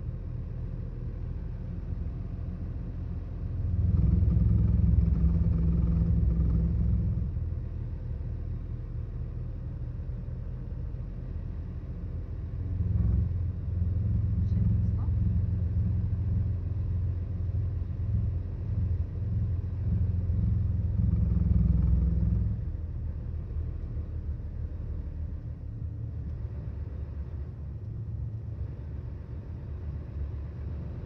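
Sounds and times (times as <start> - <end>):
diesel bus engine rumbling: 0.0 - 31.0.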